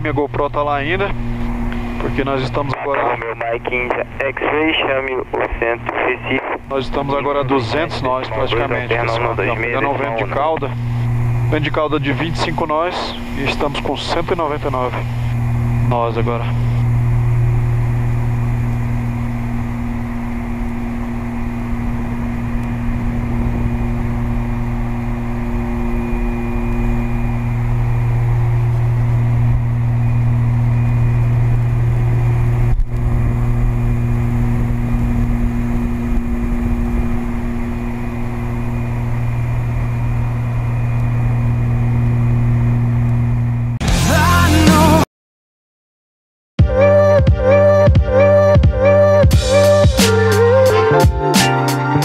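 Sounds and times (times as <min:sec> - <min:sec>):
propeller plane engines droning: 0:00.0 - 0:45.0, 0:46.7 - 0:52.0.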